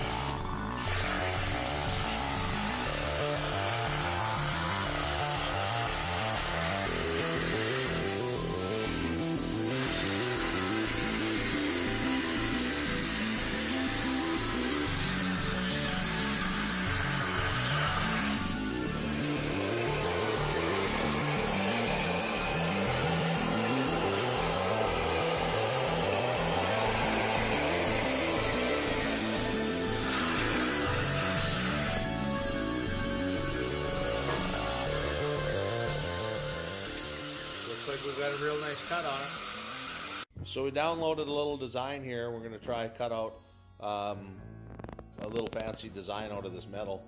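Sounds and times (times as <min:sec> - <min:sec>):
background music: 0:00.0 - 0:39.7
plasma cutter hissing: 0:00.0 - 0:40.3.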